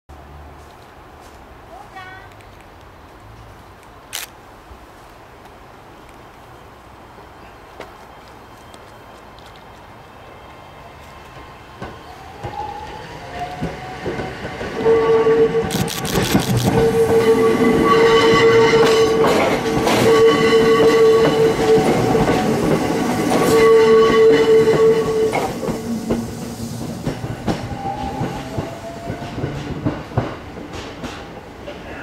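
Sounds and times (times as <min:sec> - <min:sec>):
electric train passing: 0:05.8 - 0:32.0.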